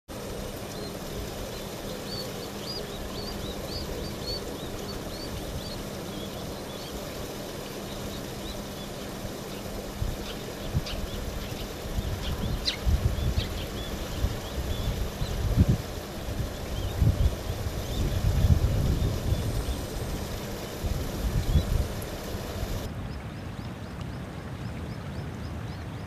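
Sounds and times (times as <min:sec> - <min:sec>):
birds twittering: 0:00.2 - 0:22.9
low background rumble: 0:00.2 - 0:22.9.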